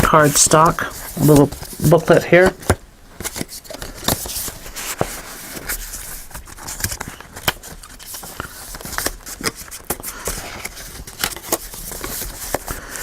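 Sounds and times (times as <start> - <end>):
paper pages turning and rustling: 0.0 - 13.0.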